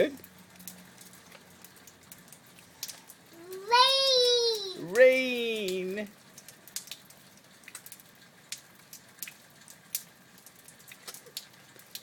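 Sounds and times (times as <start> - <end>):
faint hiss of falling rain: 0.0 - 12.0
rainwater dripping and splashing: 0.0 - 12.0.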